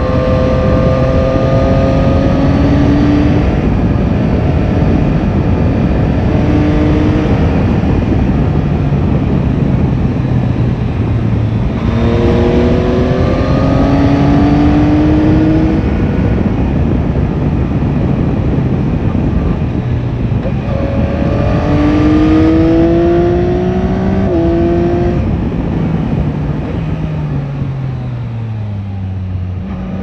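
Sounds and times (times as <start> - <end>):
heavy wind rush: 0.0 - 30.0
motorcycle engine accelerating: 0.0 - 30.0.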